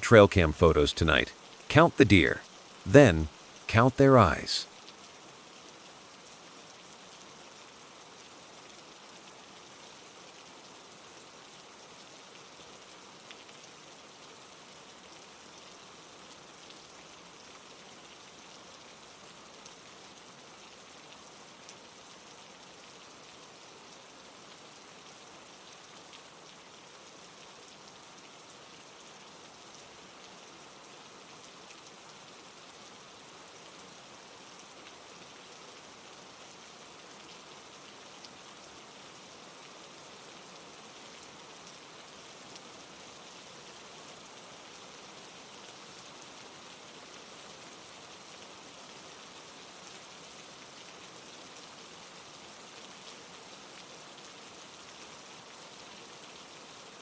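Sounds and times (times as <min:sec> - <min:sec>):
soft rain falling: 0:00.0 - 0:57.0.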